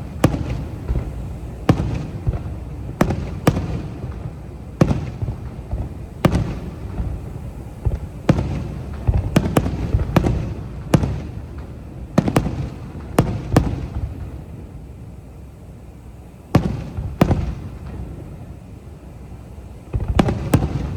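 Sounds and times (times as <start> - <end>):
fireworks sharp bangs: 0.0 - 15.6, 16.4 - 20.9
low rumble of explosions: 0.0 - 20.9.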